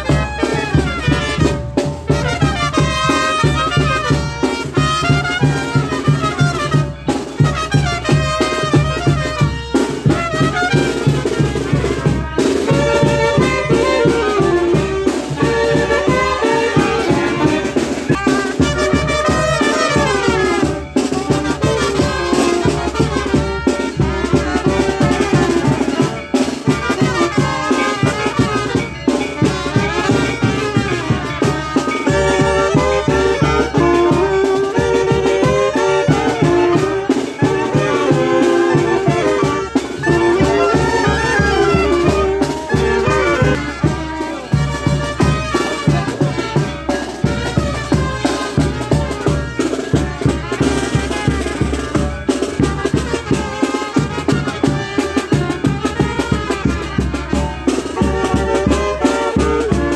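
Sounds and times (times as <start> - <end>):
brass band playing: 0.0 - 59.9
steady drum beat: 0.0 - 59.9.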